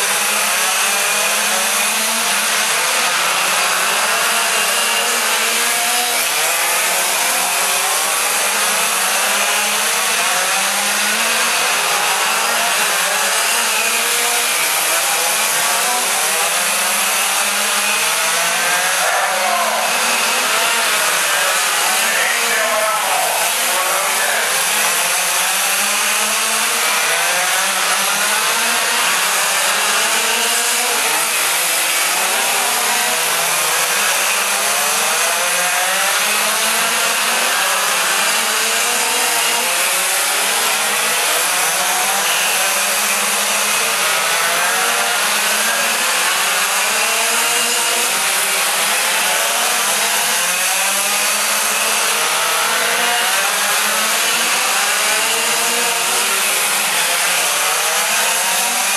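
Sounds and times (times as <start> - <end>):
small two-stroke engines racing: 0.0 - 58.9.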